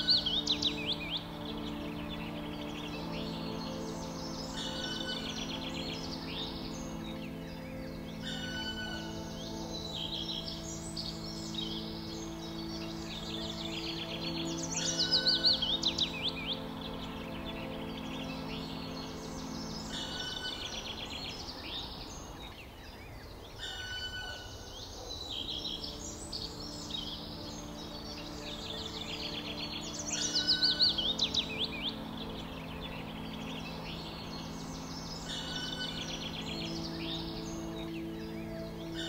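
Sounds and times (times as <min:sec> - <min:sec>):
soft background music: 0:00.0 - 0:39.0
songbirds singing and chirping: 0:00.0 - 0:39.0.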